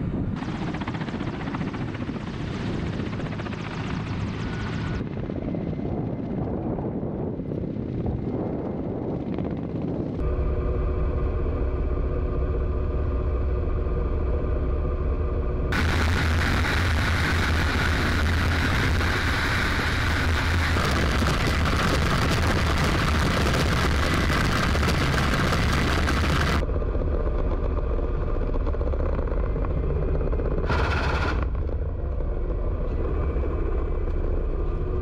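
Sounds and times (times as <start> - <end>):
wind rushing over microphone: 0.0 - 10.3, 13.9 - 35.0
helicopter rotor drone: 0.0 - 35.0.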